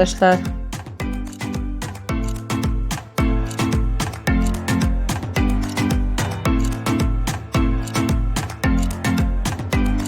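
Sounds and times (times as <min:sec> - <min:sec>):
music with driving beat and bass: 0:00.0 - 0:10.0.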